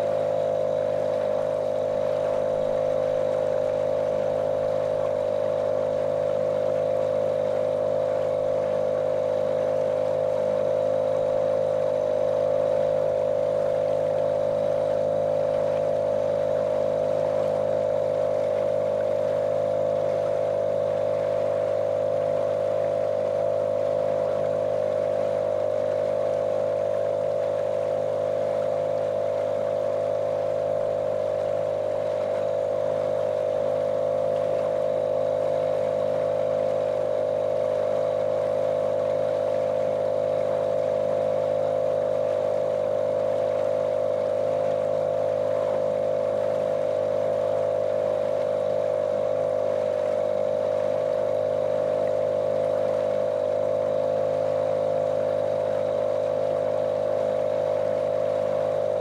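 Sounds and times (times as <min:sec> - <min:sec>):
motorboat motor droning: 0:00.0 - 0:59.0.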